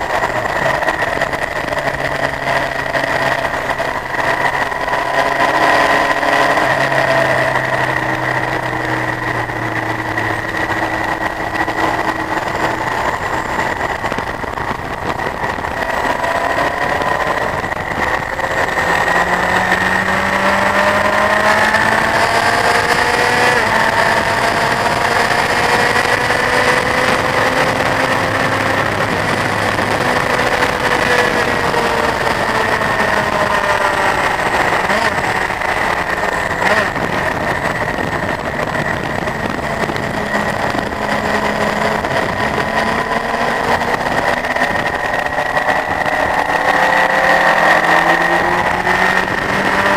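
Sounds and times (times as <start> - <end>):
motorcycle engine revving: 0.0 - 49.9
wind noise: 0.0 - 49.9.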